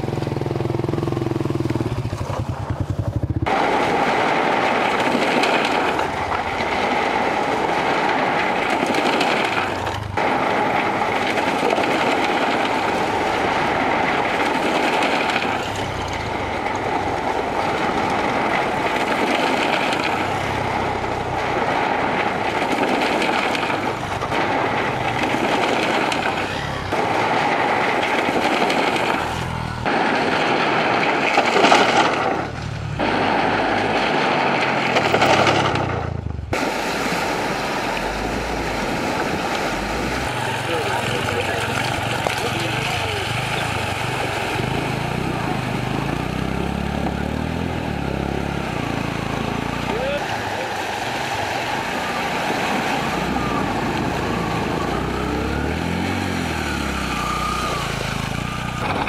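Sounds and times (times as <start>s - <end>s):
motorcycle engine revving: 0.0s - 36.6s, 37.4s - 59.0s
motorcycle engines running: 0.0s - 59.0s
steady rushing noise: 0.0s - 59.0s.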